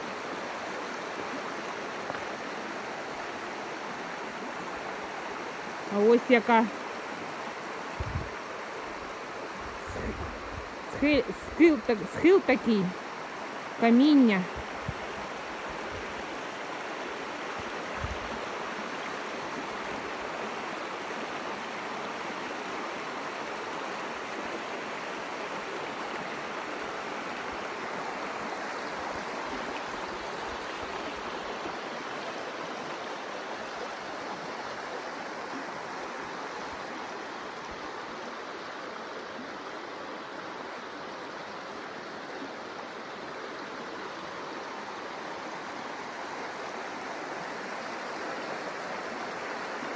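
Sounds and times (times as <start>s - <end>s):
river rushing over stones: 0.0s - 49.9s.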